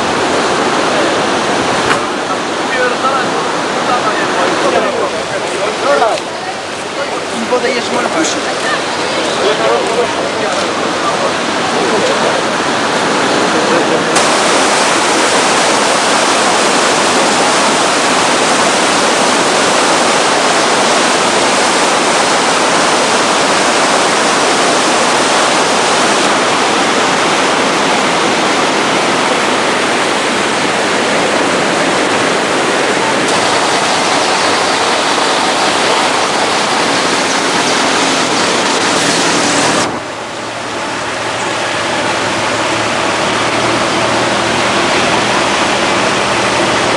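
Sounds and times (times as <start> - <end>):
rushing floodwater: 0.0 - 46.9.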